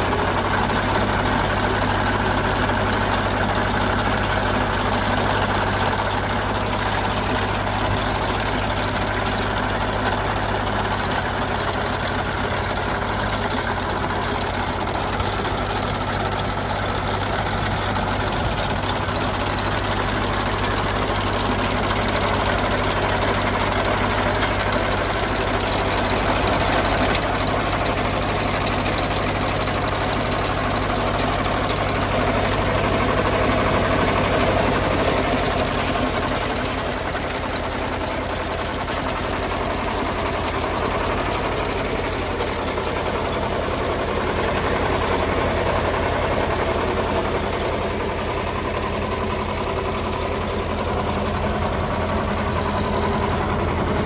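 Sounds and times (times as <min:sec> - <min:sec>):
trencher engine running: 0:00.0 - 0:54.0.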